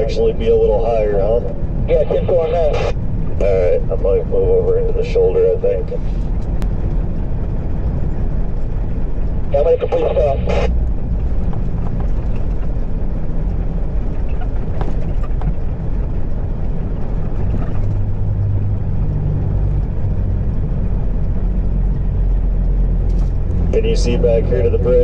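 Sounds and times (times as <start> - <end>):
diesel truck engine running: 0.0 - 25.0
road and wind noise: 0.0 - 25.0.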